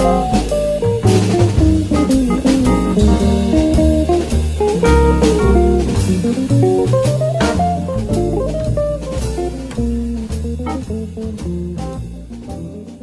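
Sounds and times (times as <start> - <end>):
bass line: 0.0 - 13.0
drum kit beat: 0.0 - 13.0
plucked guitar: 0.0 - 13.0.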